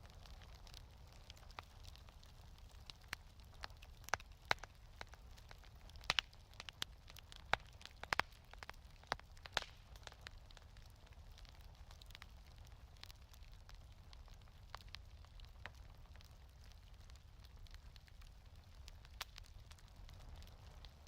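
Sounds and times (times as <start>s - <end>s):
fire pops: 0.0s - 21.0s
wood fire crackling: 0.0s - 21.0s.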